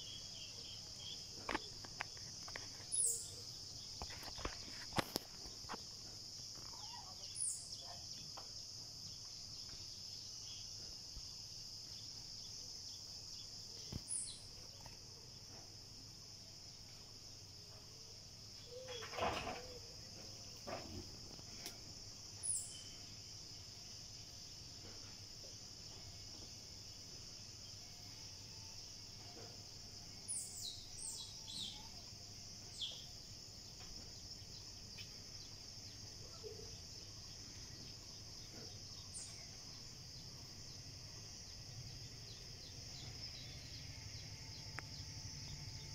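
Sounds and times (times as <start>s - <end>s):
high-pitched insect chorus: 0.0s - 45.9s.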